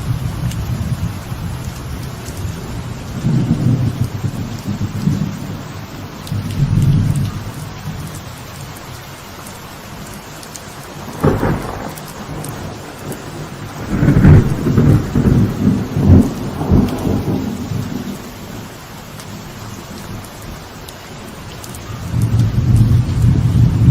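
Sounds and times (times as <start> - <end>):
thunder rumbling: 0.0 - 8.5, 10.8 - 20.6, 21.8 - 23.9
light rain on a veranda: 0.0 - 23.9.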